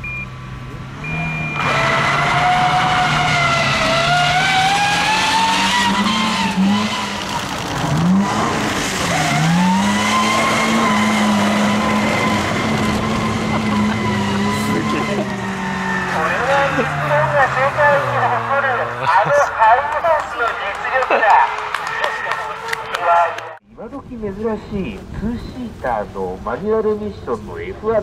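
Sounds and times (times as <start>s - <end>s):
van engine revving: 0.0s - 23.6s.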